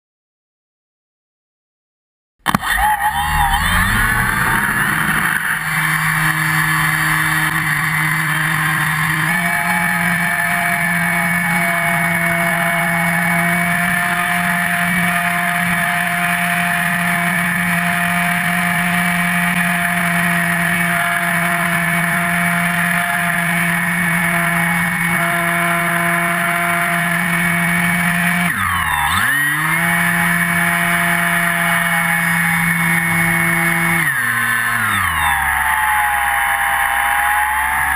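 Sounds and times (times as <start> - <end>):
electric motor and propeller whining: 2.5 - 37.9.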